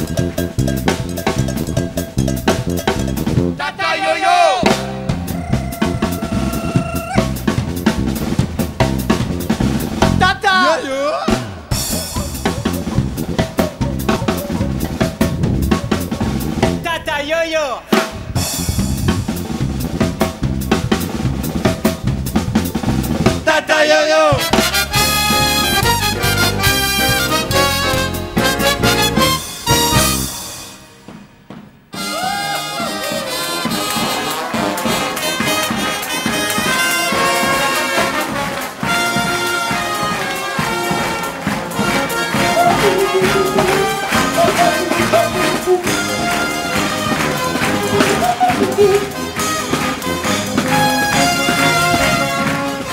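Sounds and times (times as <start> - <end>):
live band playing: 0.0 - 52.9.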